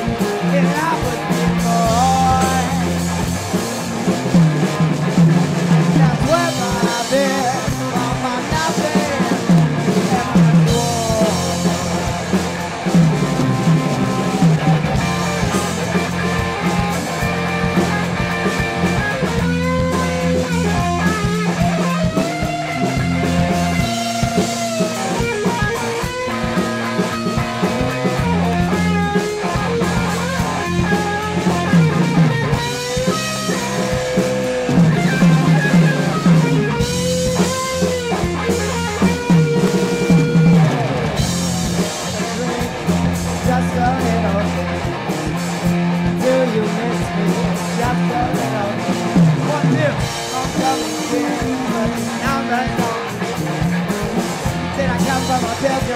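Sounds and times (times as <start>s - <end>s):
bass guitar: 0.0s - 55.9s
drum kit: 0.0s - 55.9s
electric guitar: 0.0s - 55.9s
keyboard: 0.0s - 55.9s.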